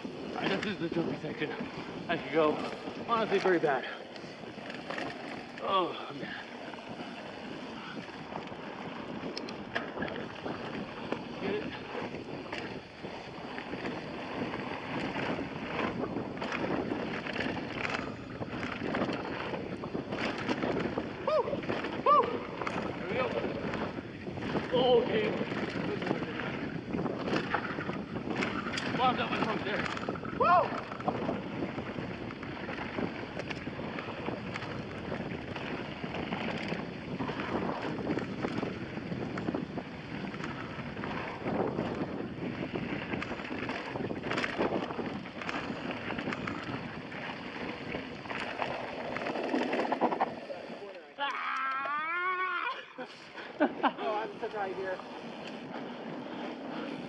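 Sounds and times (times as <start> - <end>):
bike clattering over bumps: 0.0 - 51.0
wind rushing over microphone: 0.0 - 51.0, 52.0 - 57.0
tyres rolling on dirt: 0.0 - 51.6, 52.7 - 57.0.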